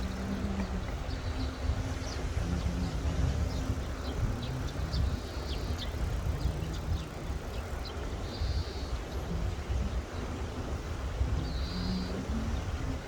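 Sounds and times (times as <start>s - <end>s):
wind gusting: 0.0s - 13.0s.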